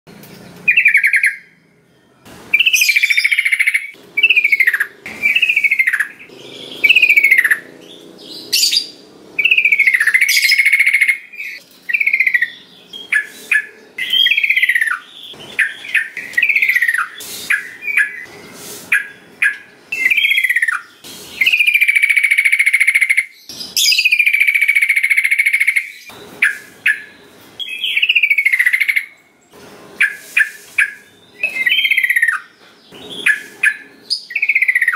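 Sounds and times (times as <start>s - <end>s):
bulbul singing: 0.3s - 29.4s, 30.0s - 34.9s.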